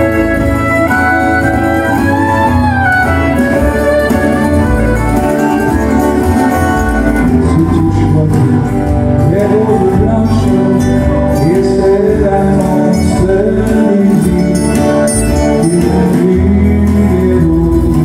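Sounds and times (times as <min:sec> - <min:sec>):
gliding melody line: 0:00.0 - 0:16.7
acoustic guitars strumming: 0:00.0 - 0:18.0.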